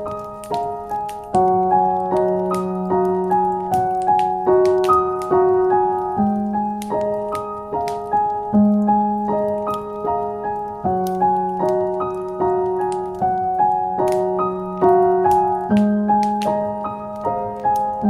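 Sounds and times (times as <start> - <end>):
faint fireplace crackles: 0.0 - 18.0
slow solo piano piece: 0.0 - 18.0.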